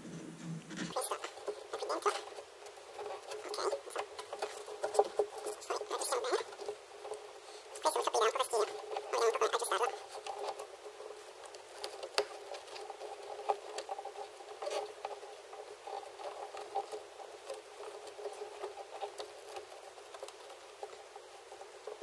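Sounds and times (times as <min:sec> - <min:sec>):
plastic trim rustling and scraping: 0:00.6 - 0:22.0.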